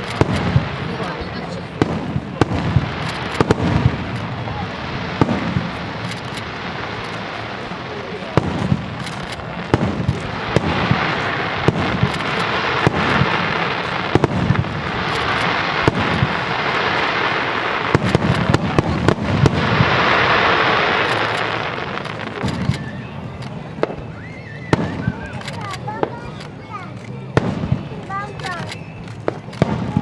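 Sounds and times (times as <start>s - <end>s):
firework bangs and booms: 0.0s - 30.0s
firework hiss: 0.0s - 30.0s.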